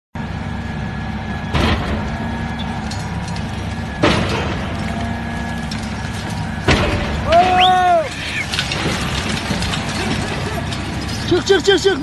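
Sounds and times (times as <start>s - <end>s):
demolition machine engine running: 0.2s - 12.0s
demolition crashes: 1.5s - 12.0s.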